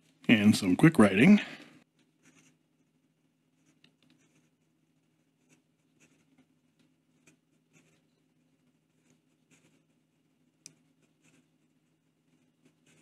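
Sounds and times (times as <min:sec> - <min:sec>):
fountain pen scratching on paper: 0:02.0 - 0:13.0.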